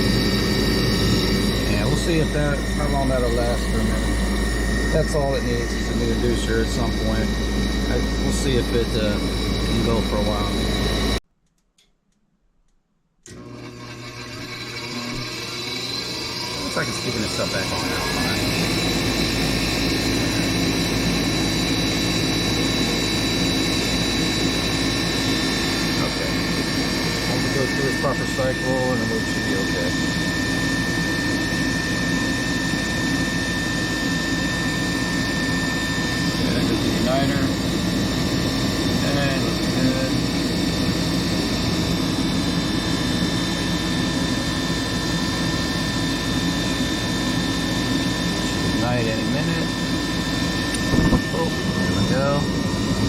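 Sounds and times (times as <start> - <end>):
motor humming with high whine: 0.0 - 11.2, 13.2 - 53.0.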